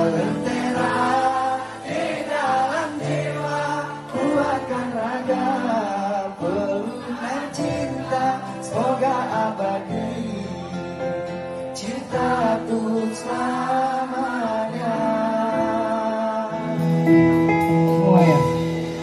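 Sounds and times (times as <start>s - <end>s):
live band with singing: 0.0s - 19.0s.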